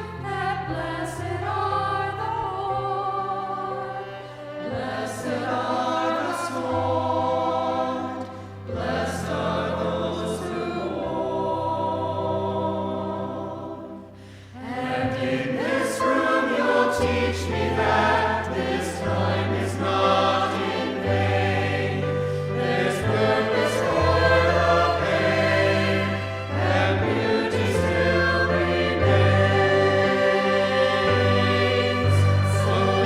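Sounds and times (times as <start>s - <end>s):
choir singing with instruments: 0.0s - 33.0s.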